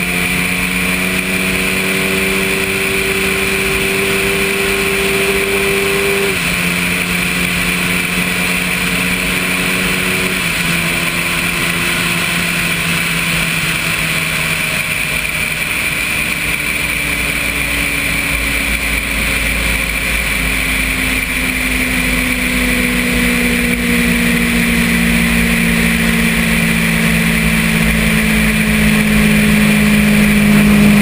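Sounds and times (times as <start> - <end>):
motorcycle engine: 0.0 - 31.0.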